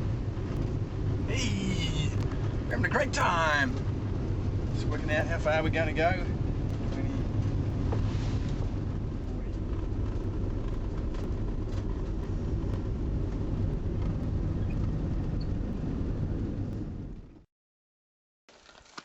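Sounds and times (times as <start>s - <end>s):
car engine and tyre rumble: 0.0s - 17.5s.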